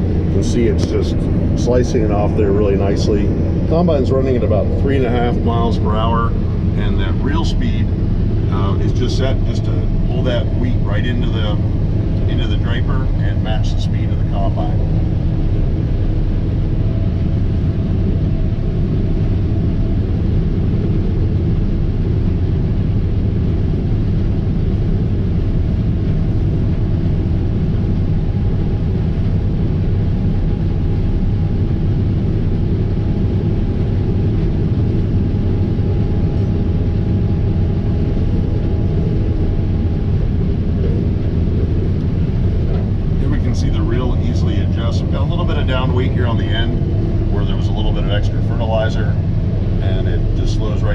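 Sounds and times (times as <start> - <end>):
combine harvester rumble: 0.0 - 50.9
faint steady whine: 0.0 - 50.9.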